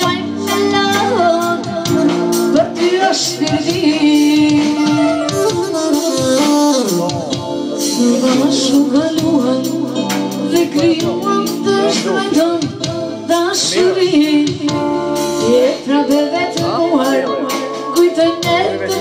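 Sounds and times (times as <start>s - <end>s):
woman singing into a microphone: 0.0s - 6.8s, 7.7s - 19.0s
live band playing: 0.0s - 19.0s.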